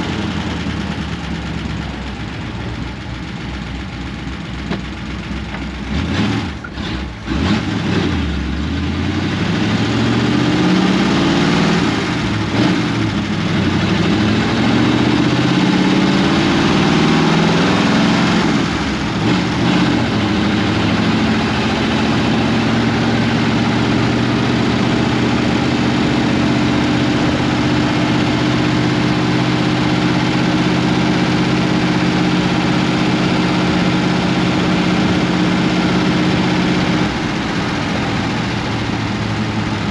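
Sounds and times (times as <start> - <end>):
engine running through straight pipes: 0.0 - 39.9.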